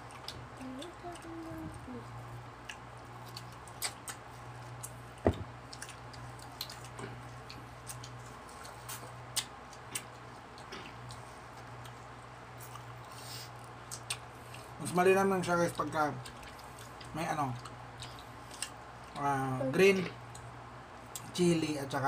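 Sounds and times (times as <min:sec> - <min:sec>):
people chewing mango: 0:00.0 - 0:22.0.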